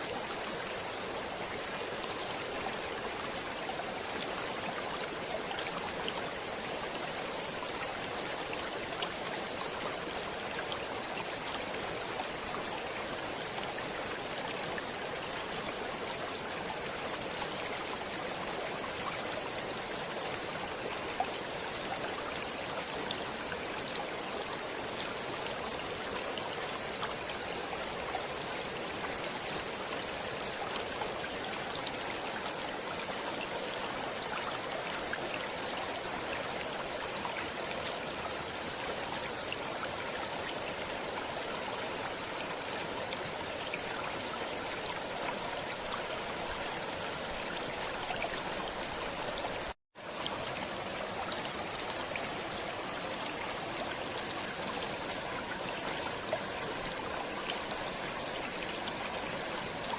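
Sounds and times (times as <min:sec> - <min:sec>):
stream water splashing and trickling: 0:00.0 - 0:59.9.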